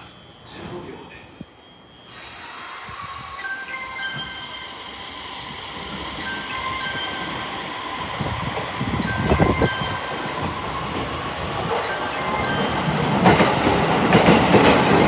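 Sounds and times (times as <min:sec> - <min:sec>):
electric train arriving: 0:00.0 - 0:15.0
high wheel squeals: 0:02.1 - 0:15.0.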